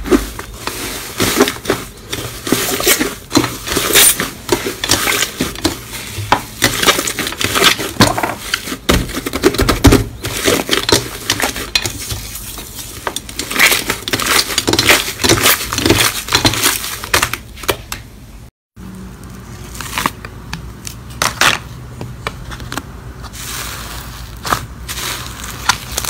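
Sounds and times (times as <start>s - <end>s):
slime crackling and squishing: 0.0s - 17.7s, 19.1s - 21.6s, 23.3s - 26.0s.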